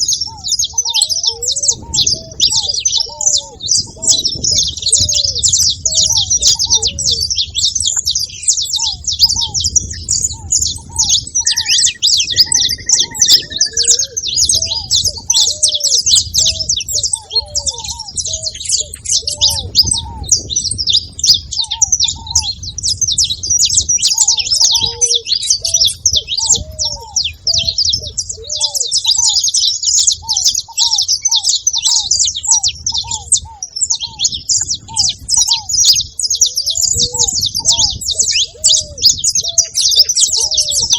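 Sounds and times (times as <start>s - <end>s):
doves giving low calls: 0.0s - 40.9s
finches chirping and singing: 0.0s - 40.9s.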